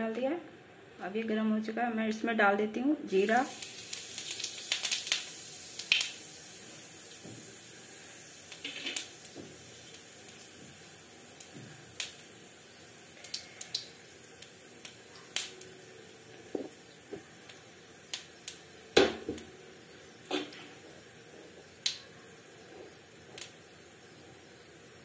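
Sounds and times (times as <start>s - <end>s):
oil sizzling: 3.1s - 25.0s
seeds popping in hot oil: 3.1s - 25.0s.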